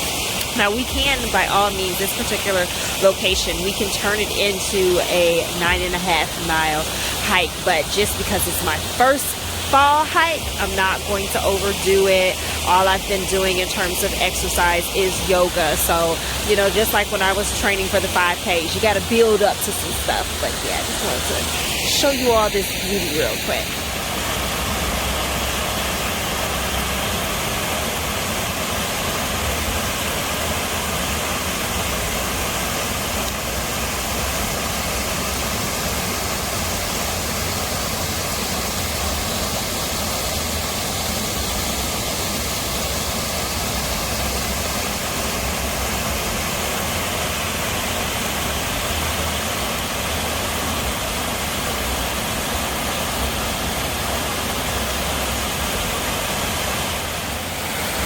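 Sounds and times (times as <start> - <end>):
small waterfall rushing: 0.0 - 58.0.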